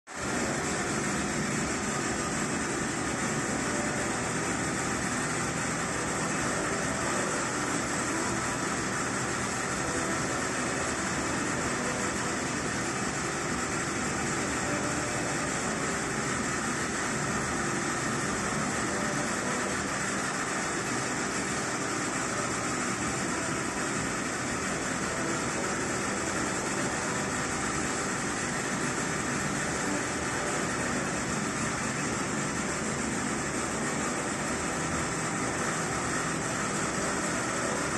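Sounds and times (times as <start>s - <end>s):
machinery humming: 0.1s - 37.9s.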